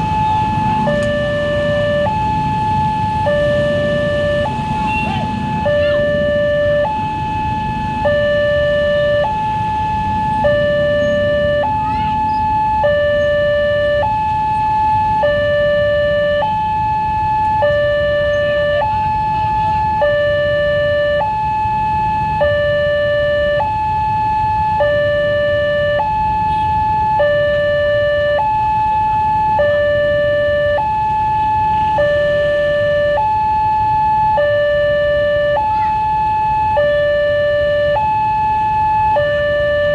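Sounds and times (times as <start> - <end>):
low traffic rumble: 0.0 - 39.9
two-tone crossing warning siren: 0.0 - 39.9.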